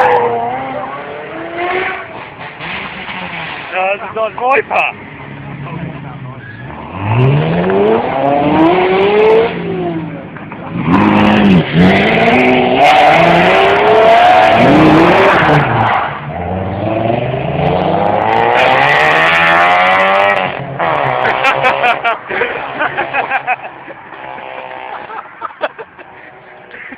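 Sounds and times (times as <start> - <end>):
car engine revving: 0.0 - 25.2.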